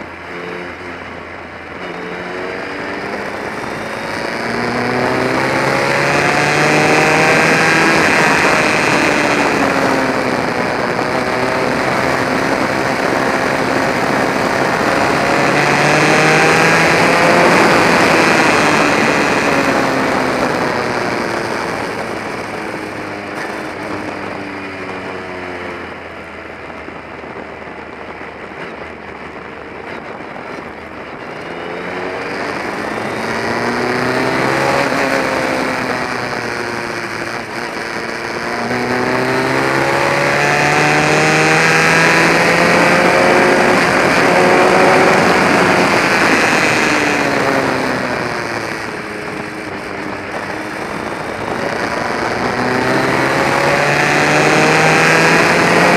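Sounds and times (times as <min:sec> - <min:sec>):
race car engine revving: 0:00.0 - 0:55.9
steady rushing noise: 0:00.0 - 0:55.9.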